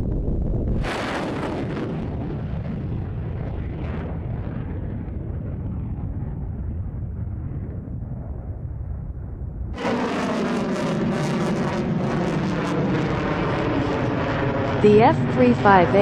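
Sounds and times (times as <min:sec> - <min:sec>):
jet engine rumble and roar: 0:00.0 - 0:16.0.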